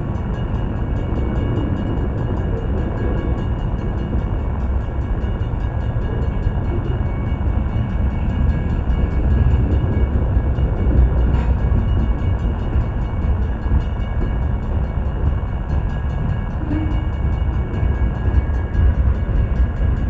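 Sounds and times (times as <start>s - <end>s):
freight cars rumbling on rails: 0.0s - 20.0s.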